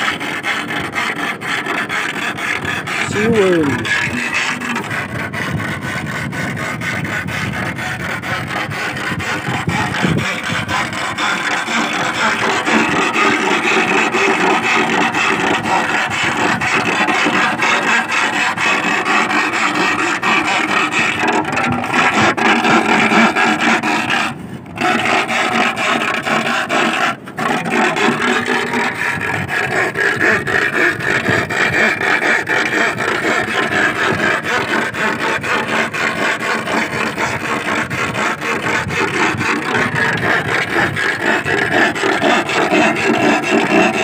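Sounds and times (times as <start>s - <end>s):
iron bar scraping: 0.0s - 44.0s.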